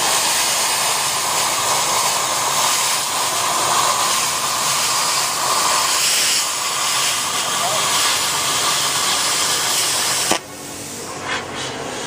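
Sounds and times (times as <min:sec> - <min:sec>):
plasma cutter torch hissing: 0:00.0 - 0:12.0.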